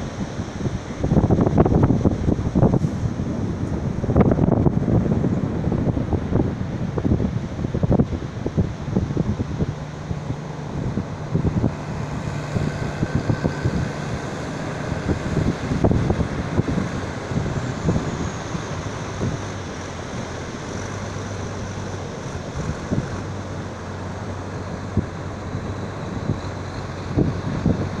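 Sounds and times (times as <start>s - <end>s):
surf washing: 0.0s - 28.0s
tractor engine running: 0.0s - 28.0s
wind gusting on microphone: 0.0s - 28.0s.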